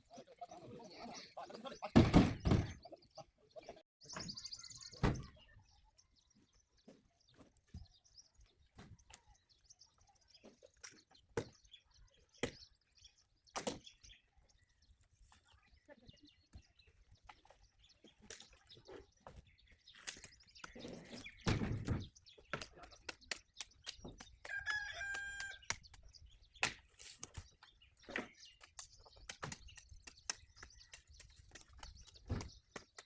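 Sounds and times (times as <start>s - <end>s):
bird chirping: 0.1s - 33.0s.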